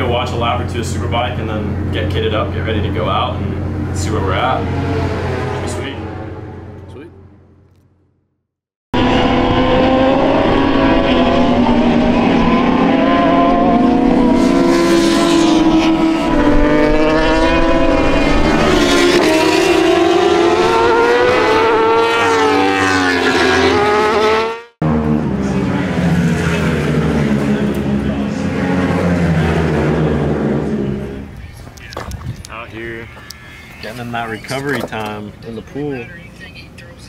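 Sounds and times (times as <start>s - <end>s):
racing motorcycles accelerating: 0.0s - 7.0s, 9.0s - 31.9s
background engine noise: 0.0s - 8.1s, 9.0s - 37.0s.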